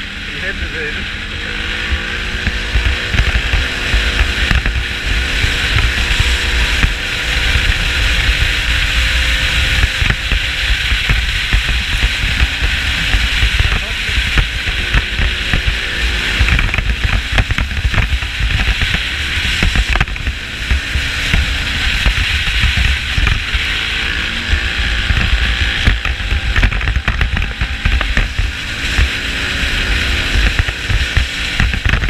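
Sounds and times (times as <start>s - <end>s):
vehicle rumble and wind rush: 0.0s - 32.0s.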